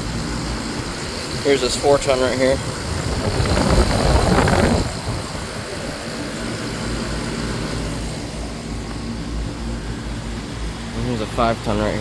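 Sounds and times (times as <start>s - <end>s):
compressor humming: 0.0s - 12.0s
condenser fan whooshing: 0.0s - 12.0s.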